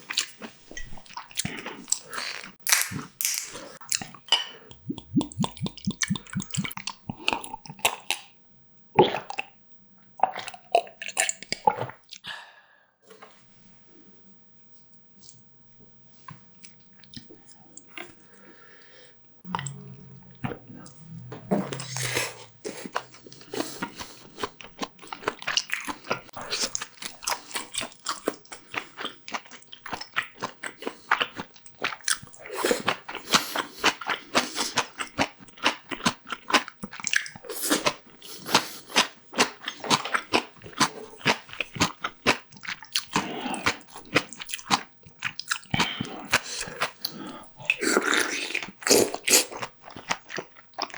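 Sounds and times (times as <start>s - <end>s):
person chewing crunchy food: 0.0s - 8.4s, 9.0s - 9.6s, 10.2s - 12.3s, 19.4s - 50.9s.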